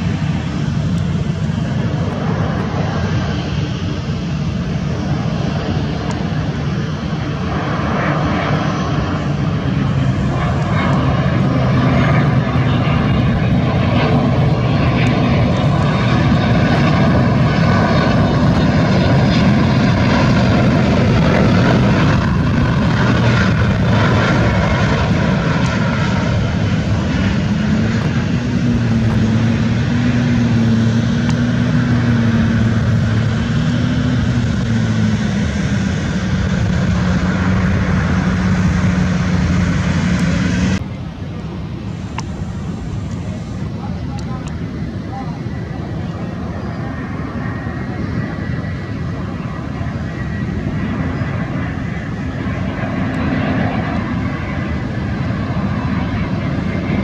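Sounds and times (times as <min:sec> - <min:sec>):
jet engine rumble: 0:00.0 - 0:57.0
whining engine tones: 0:00.0 - 0:57.0.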